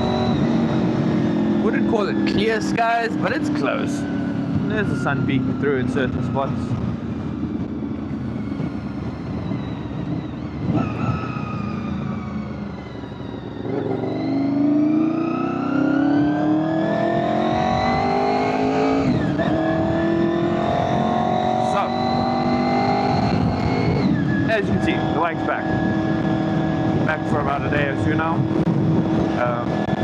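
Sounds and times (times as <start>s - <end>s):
wind buffeting microphone: 0.0s - 14.0s, 18.9s - 30.0s
motorcycle engine: 0.0s - 30.0s.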